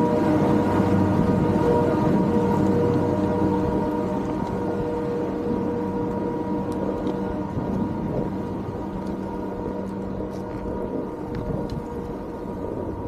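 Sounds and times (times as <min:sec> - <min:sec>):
chairlift machinery humming: 0:00.0 - 0:13.0.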